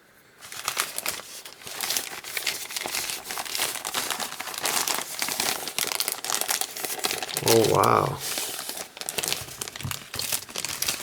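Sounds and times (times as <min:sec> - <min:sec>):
parcel wrapping crinkling: 0:00.4 - 0:07.4, 0:08.2 - 0:11.0.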